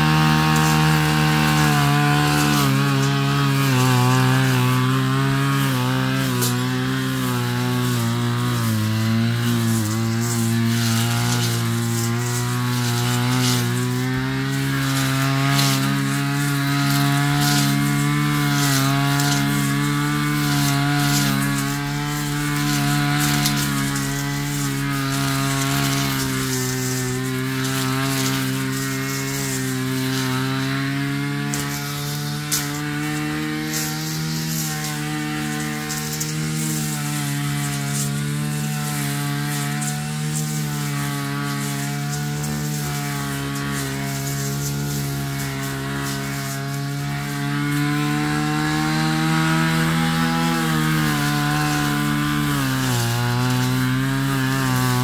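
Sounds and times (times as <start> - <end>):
blade swishing through grass: 0.0 - 55.0
brush cutter engine running: 0.0 - 55.0.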